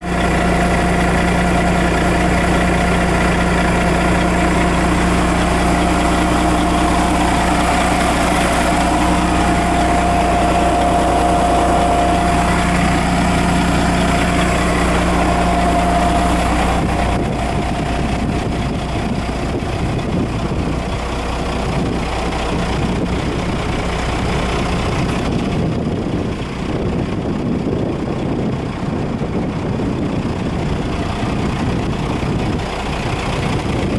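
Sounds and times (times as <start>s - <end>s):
diesel engine idling: 0.0s - 33.9s
engine whine: 0.0s - 33.9s.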